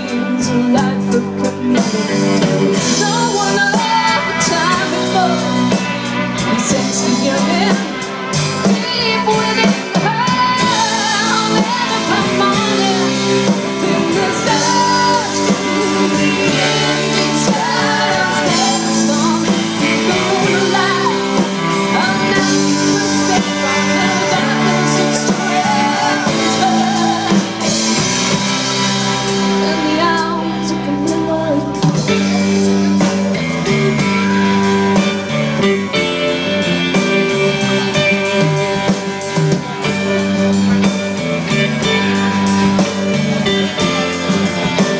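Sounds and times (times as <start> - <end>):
electric guitars: 0.0 - 44.9
live band playing: 0.0 - 44.9.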